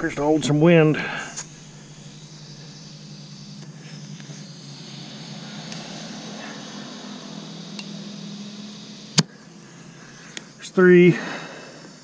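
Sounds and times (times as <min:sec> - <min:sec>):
steady low hum: 0:00.0 - 0:12.0
compressed air hissing: 0:00.2 - 0:12.0.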